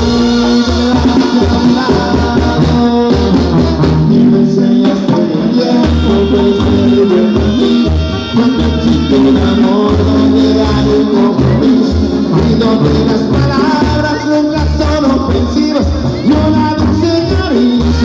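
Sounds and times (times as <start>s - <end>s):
brass playing: 0.0s - 18.0s
drums: 0.0s - 18.0s
person singing: 0.0s - 18.0s
tuba bass line: 0.0s - 18.0s.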